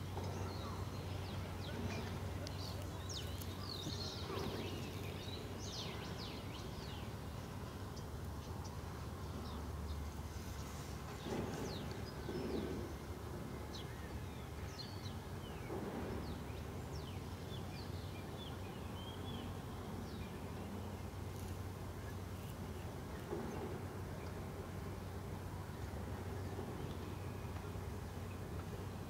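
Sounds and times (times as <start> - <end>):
small birds chirping: 0.0 - 24.5.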